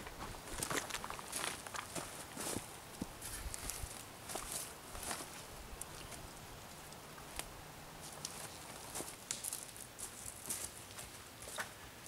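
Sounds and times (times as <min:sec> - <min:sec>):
footsteps crunching on twigs and leaves: 0:00.0 - 0:06.3, 0:07.3 - 0:11.8.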